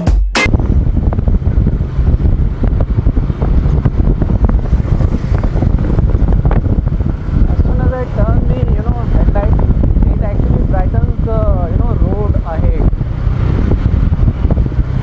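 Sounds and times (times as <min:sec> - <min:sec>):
wind buffeting microphone: 0:00.5 - 0:15.0.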